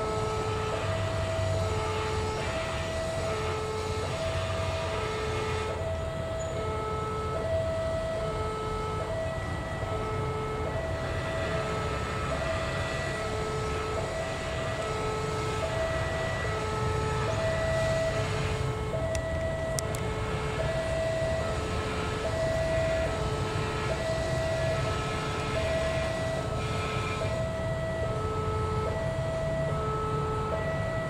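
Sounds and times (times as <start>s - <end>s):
diesel locomotive rumble: 0.0s - 31.0s
two-tone electronic alarm: 0.0s - 31.0s.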